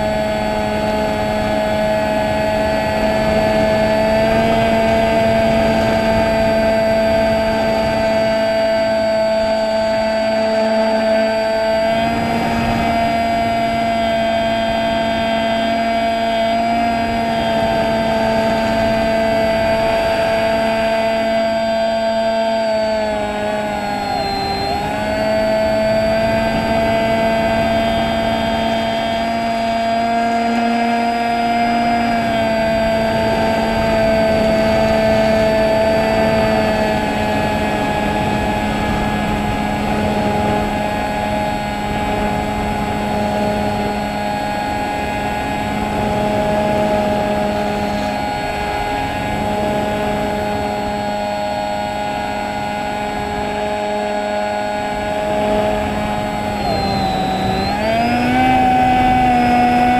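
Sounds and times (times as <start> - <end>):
drone motor and propeller whine: 0.0 - 59.9
wind noise: 0.0 - 59.9.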